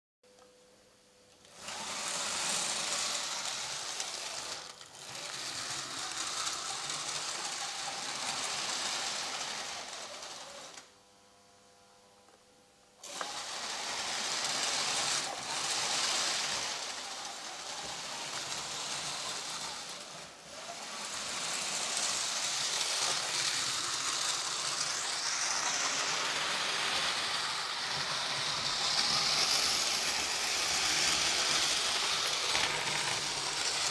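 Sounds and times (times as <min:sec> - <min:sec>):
small electric motor whirring: 0:01.5 - 0:10.9, 0:13.0 - 0:33.9.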